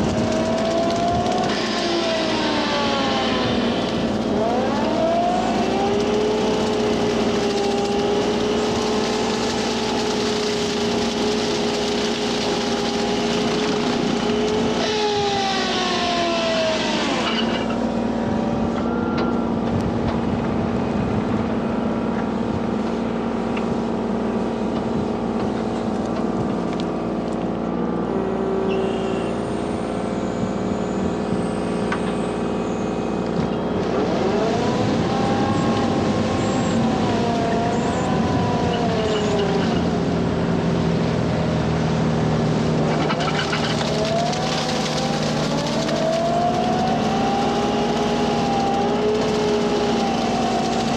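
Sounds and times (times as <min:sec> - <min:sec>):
brush cutter blade whine: 0:00.0 - 0:19.6, 0:28.1 - 0:50.9
cutter churning water and reeds: 0:00.0 - 0:50.9
diesel engine running: 0:00.0 - 0:50.9.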